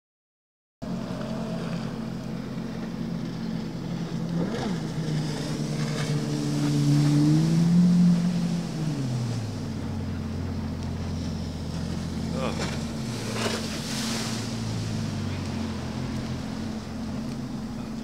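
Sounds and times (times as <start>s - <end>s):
jet ski engine running: 0.8s - 18.0s.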